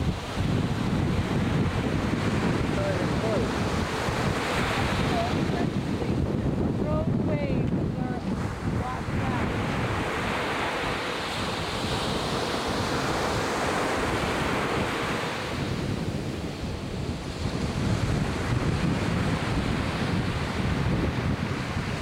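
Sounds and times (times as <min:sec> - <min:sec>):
ocean wave breaking: 0:00.0 - 0:22.0
wind rumble on microphone: 0:00.0 - 0:22.0.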